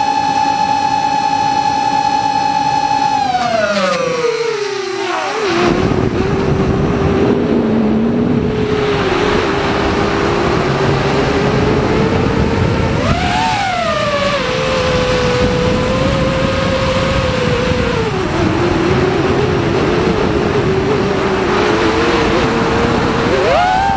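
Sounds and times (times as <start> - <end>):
small aircraft engine and propeller: 0.0 - 23.9
rushing wind: 2.6 - 23.9.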